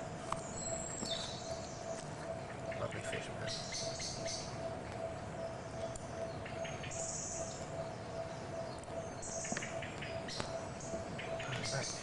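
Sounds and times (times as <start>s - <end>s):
background hiss: 0.0s - 12.0s
faint hum: 0.0s - 12.0s
songbirds chirping: 0.0s - 12.0s.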